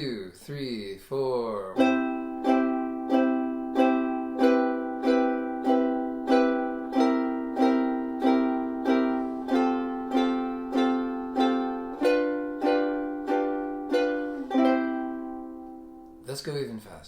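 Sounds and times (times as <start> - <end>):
ukulele strumming chords: 1.6 - 16.4.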